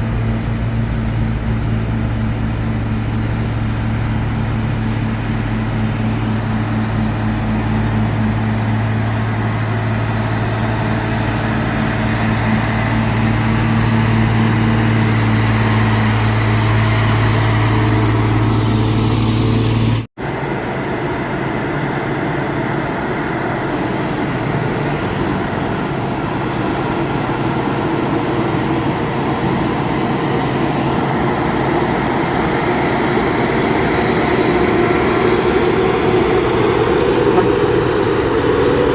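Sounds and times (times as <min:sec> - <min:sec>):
faint high whine: 0:00.0 - 0:38.9
rough noisy engine: 0:00.0 - 0:38.9
truck diesel engine under load: 0:00.0 - 0:38.9.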